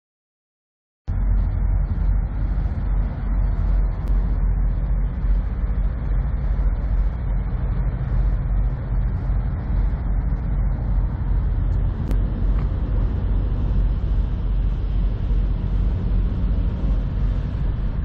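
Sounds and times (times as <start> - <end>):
diesel truck engine idling: 1.1 - 18.0.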